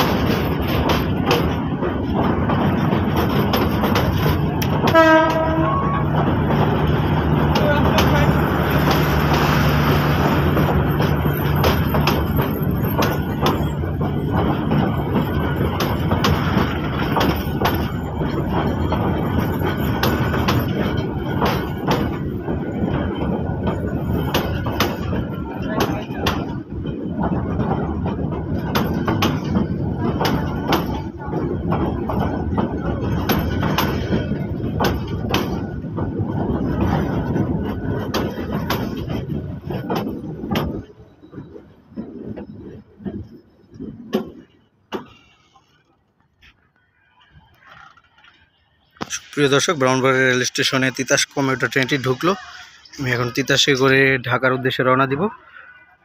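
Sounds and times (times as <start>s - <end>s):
wheels clacking on rails: 0.0s - 55.9s
train coaches rumbling past: 0.0s - 56.0s.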